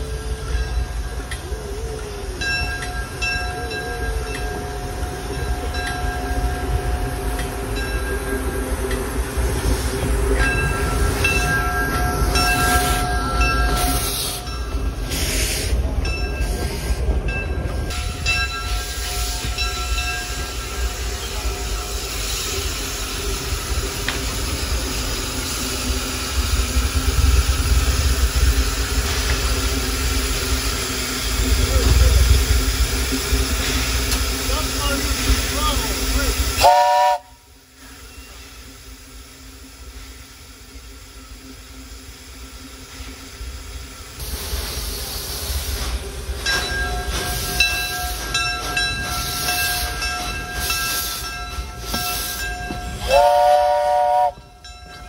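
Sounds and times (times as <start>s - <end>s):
train wheels rumbling: 0.0s - 55.0s
steam hissing: 3.7s - 55.0s.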